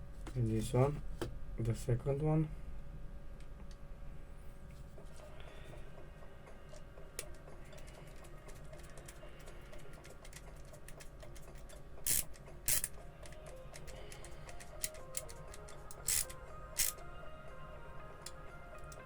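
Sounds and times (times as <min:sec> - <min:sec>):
faint background music: 0:00.0 - 0:19.0.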